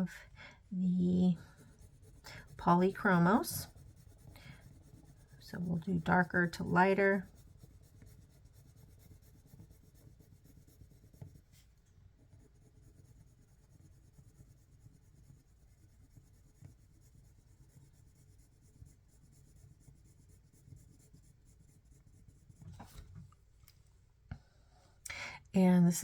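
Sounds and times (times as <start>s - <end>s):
colored pencil scratching on paper: 0.8s - 23.1s.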